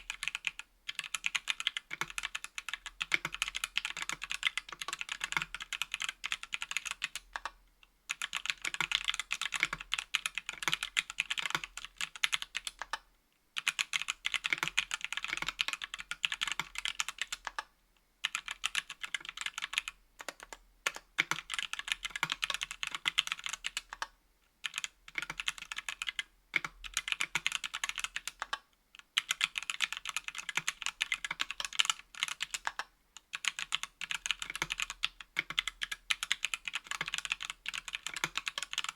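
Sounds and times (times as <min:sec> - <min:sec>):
mechanical keyboard typing: 0:00.0 - 0:13.0, 0:13.6 - 0:17.6, 0:18.2 - 0:38.9.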